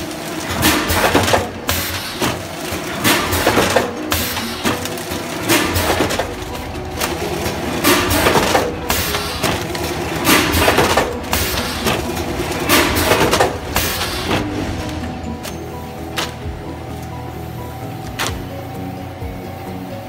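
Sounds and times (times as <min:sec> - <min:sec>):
machine hum: 0:00.0 - 0:20.0
packaging machine clattering: 0:00.0 - 0:20.0.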